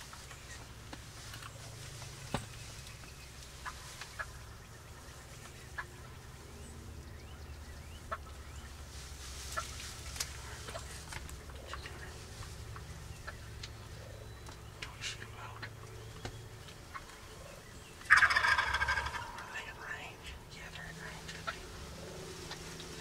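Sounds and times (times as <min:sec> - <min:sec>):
low steady rumble: 0:00.0 - 0:23.0
wild turkeys calling: 0:00.0 - 0:23.0.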